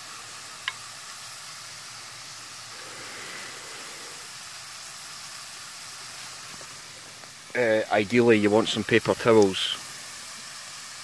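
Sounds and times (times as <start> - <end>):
potato slices sizzling in oil: 0.0 - 11.0.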